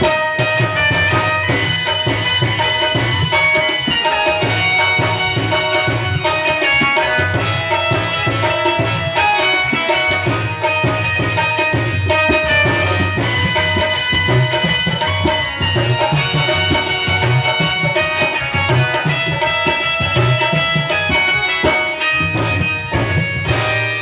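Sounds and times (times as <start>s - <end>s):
steady drum rhythm: 0.0s - 24.0s
sustained melody lines: 0.0s - 24.0s.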